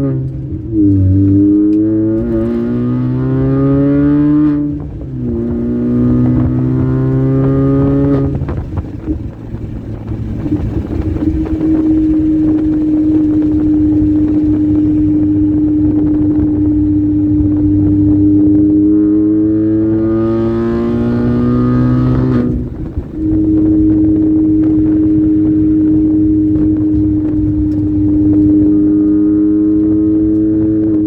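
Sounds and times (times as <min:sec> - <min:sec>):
supercharged car engine revving: 0:00.0 - 0:31.0.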